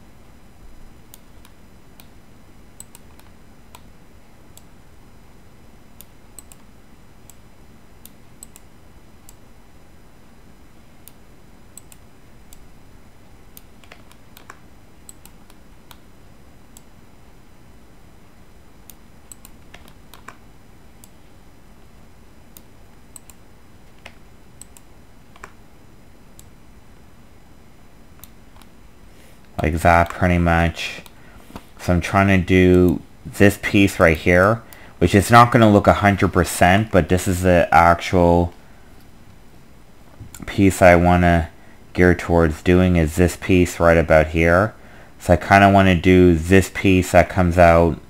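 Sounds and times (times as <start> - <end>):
background hiss: 0.0 - 48.0.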